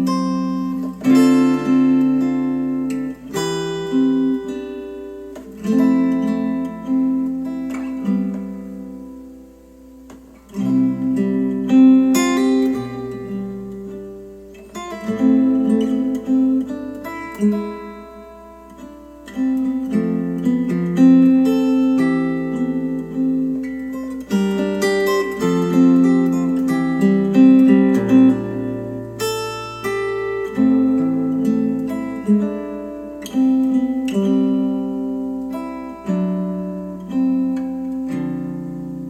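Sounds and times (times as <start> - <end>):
acoustic guitar music over speakers: 0.0 - 39.0.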